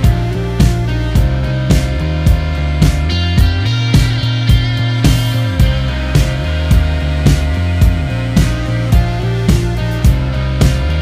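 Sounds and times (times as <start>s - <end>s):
rock music with drum beat: 0.0s - 11.0s.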